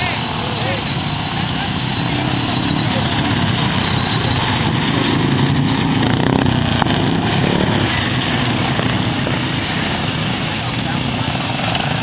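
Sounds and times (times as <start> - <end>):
racing lawn mower engines: 0.0 - 12.0.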